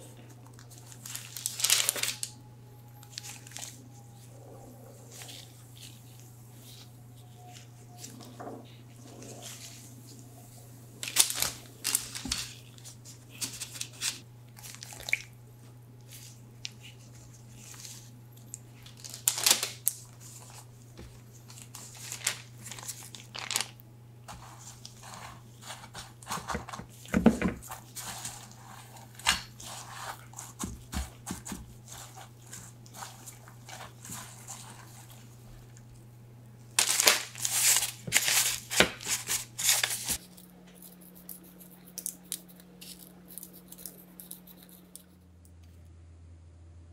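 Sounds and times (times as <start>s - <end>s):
steady low hum: 0.0s - 46.9s
parchment paper crinkling: 0.1s - 4.2s, 5.1s - 10.2s, 11.0s - 15.4s, 16.0s - 45.3s.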